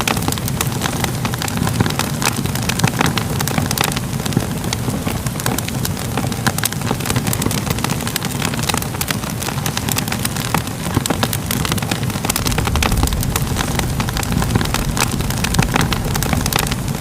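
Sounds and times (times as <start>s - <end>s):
low rumble of fire: 0.0s - 17.0s
wood fire crackling: 0.0s - 17.0s.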